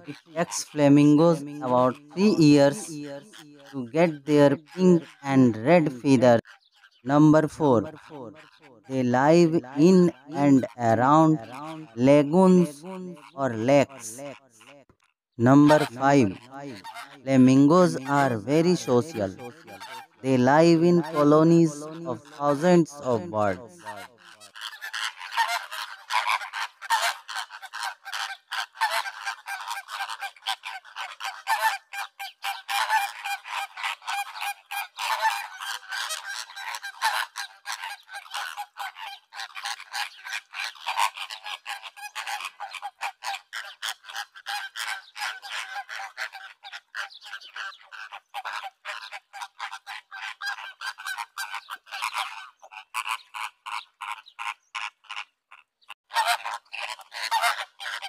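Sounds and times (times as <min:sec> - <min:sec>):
flamingos honking: 0:00.0 - 0:06.5, 0:07.1 - 0:14.7, 0:15.4 - 0:53.8, 0:56.1 - 0:58.0.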